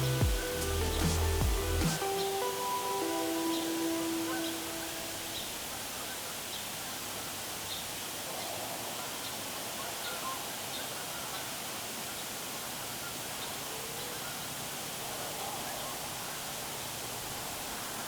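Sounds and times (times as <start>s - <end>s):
wind in the woods: 0.0s - 18.0s.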